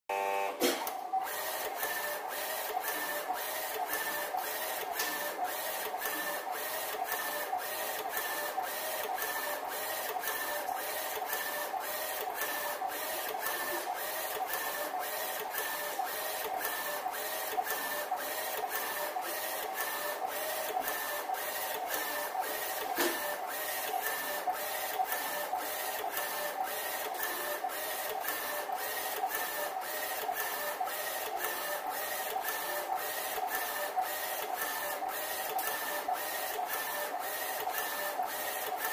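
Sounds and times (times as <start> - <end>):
printer motors pulsing hum: 0.1 - 38.9.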